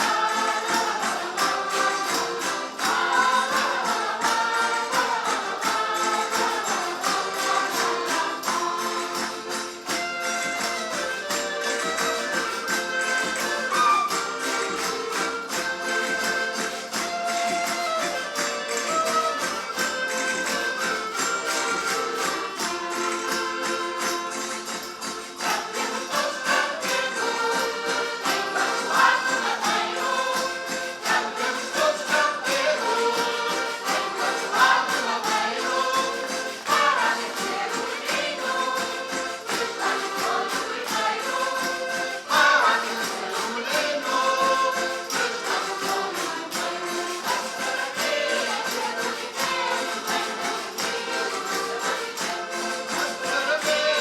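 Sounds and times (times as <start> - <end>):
folk group singing in chorus: 0.0 - 54.0
instrumental accompaniment: 0.0 - 54.0
steady percussion beat: 0.0 - 54.0.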